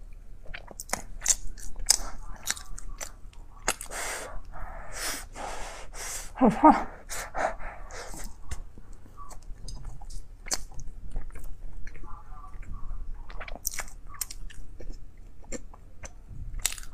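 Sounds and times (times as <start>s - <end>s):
chewing soft bread: 0.0s - 4.7s, 7.2s - 16.9s.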